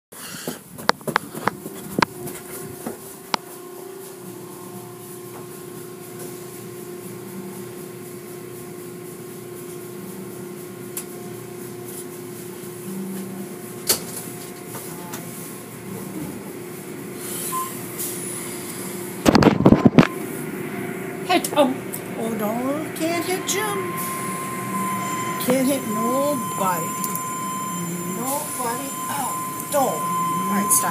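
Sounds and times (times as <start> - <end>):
car wash machinery hum: 0.2 - 30.9.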